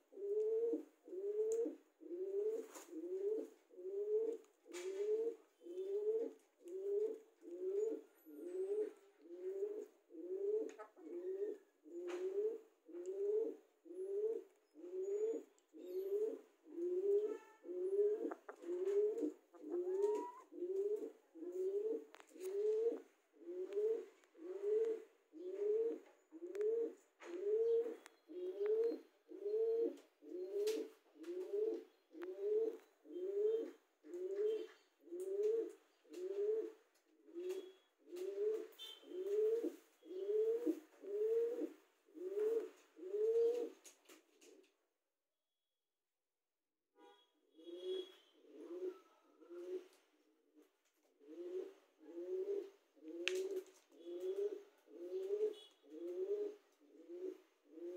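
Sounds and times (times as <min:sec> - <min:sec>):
pigeon cooing: 0:00.0 - 0:43.8, 0:47.6 - 0:50.0, 0:51.2 - 0:57.9.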